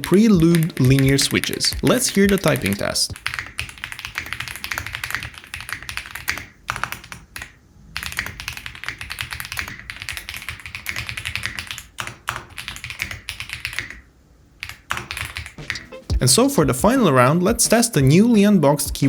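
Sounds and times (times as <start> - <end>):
fast typing on mechanical keyboard: 0.0 - 15.6.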